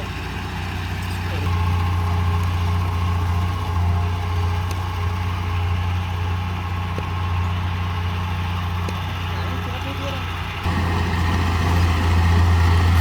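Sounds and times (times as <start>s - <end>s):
diesel engine idling deep hum: 0.0s - 13.0s.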